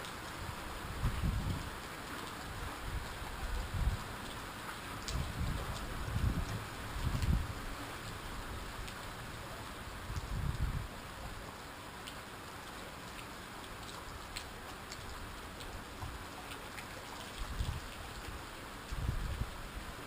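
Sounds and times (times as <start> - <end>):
raindrops ticking: 0.0 - 19.1
rain hissing: 0.0 - 20.0.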